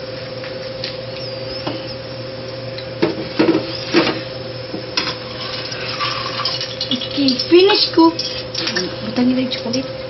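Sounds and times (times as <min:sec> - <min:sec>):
constant hum: 0:00.0 - 0:10.0.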